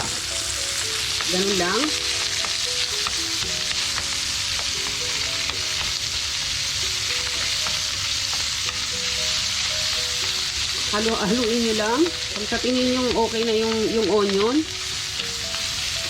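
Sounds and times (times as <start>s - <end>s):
bacon and onion sizzling: 0.0s - 16.0s.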